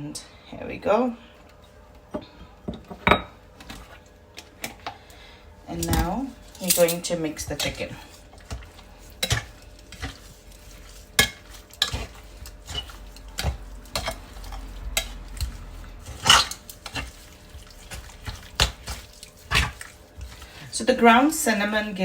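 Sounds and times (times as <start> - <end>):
wet squelching of mixing chicken: 3.8 - 22.0.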